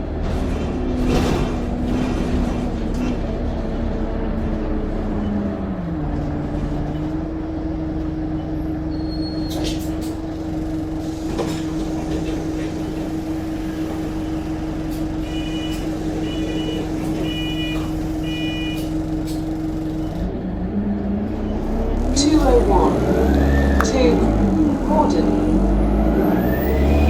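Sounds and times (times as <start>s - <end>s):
bus engine: 0.0s - 27.0s.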